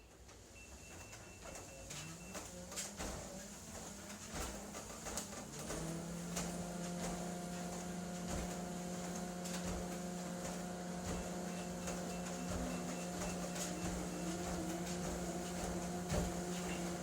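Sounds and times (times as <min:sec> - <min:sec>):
treadmill motor whine: 0:00.0 - 0:17.0.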